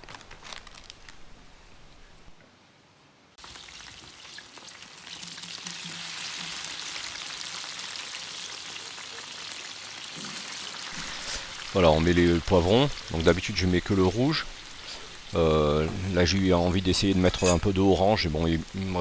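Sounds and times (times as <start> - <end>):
food sizzling in oil: 3.4 - 19.0.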